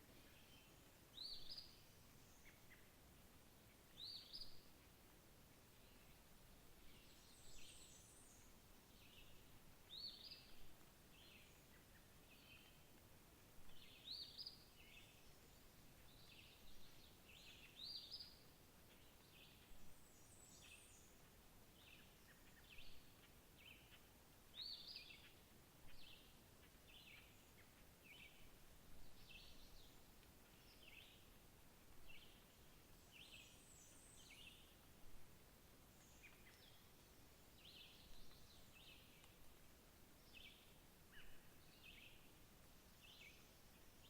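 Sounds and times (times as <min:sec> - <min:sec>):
steady background hiss: 0:00.0 - 0:44.0.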